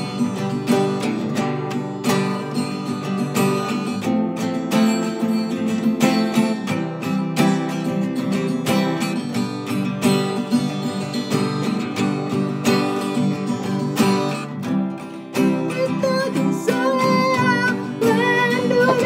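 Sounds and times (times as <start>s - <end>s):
acoustic guitars strummed and picked: 0.0s - 19.0s.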